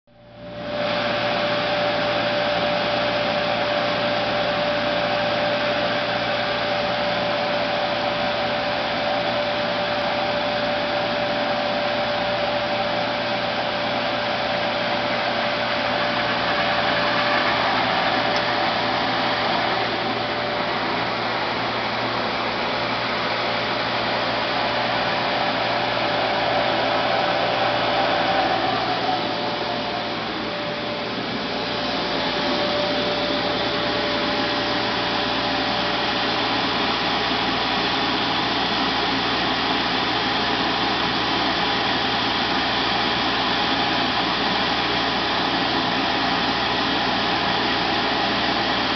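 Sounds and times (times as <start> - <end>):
steady machine whine: 0.1 - 48.9
sanding machine whirring: 0.6 - 48.9.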